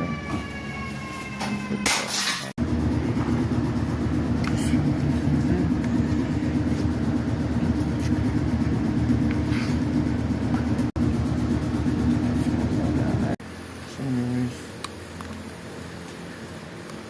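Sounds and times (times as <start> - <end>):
low mechanical drone: 2.6 - 17.0.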